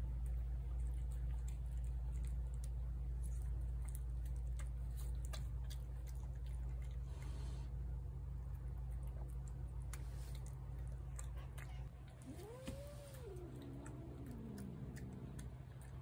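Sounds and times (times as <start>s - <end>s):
cat chewing and licking: 0.0s - 16.0s
steady low hum: 0.0s - 16.0s.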